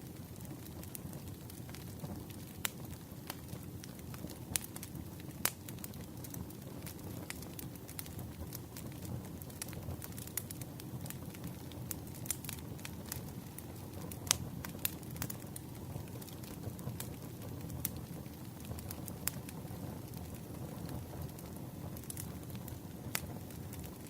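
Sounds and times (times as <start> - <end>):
campfire flames rumbling: 0.0 - 24.0
logs crackling and popping: 0.1 - 24.0.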